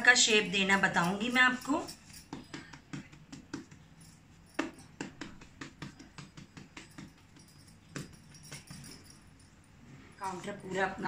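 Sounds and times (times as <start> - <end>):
fingertips patting dough: 0.0 - 9.2.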